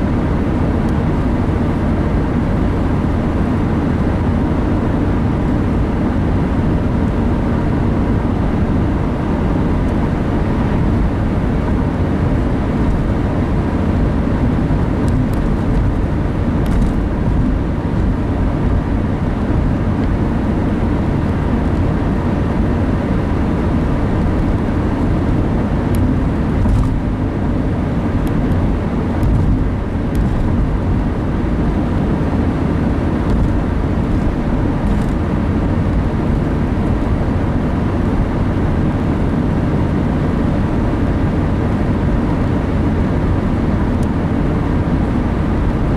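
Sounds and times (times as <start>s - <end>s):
car interior engine and tyre rumble: 0.0s - 45.9s.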